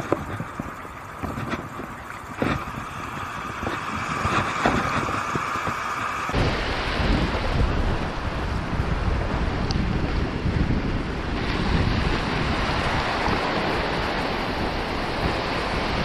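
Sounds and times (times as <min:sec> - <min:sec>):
surf washing over beach: 0:00.0 - 0:16.0
wind buffeting microphone: 0:00.0 - 0:16.0.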